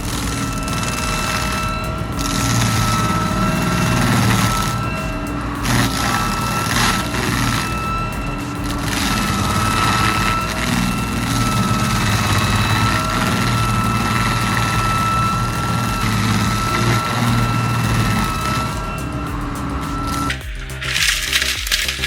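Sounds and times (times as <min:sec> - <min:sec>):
constant high whine: 0:00.0 - 0:22.0
heavy machine engine running: 0:00.0 - 0:22.0.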